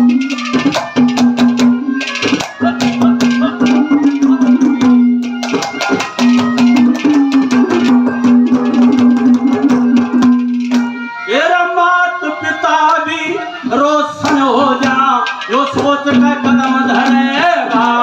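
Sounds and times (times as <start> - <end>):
fast hand drum rhythm: 0.0 - 11.0, 14.2 - 18.0.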